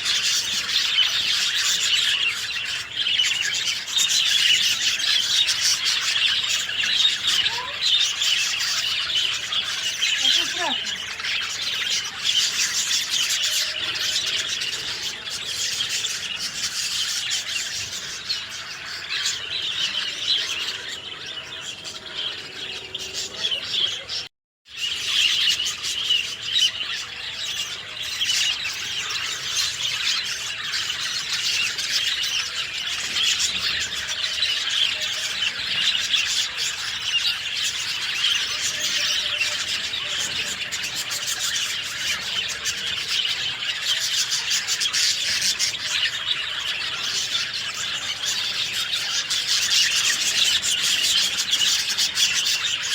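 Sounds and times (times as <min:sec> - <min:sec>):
small birds chirping chorus: 0:00.0 - 0:52.9.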